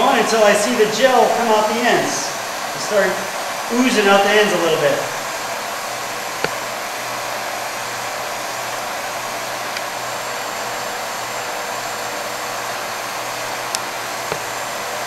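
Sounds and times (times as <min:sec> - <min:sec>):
heat gun blowing: 0:00.1 - 0:15.0.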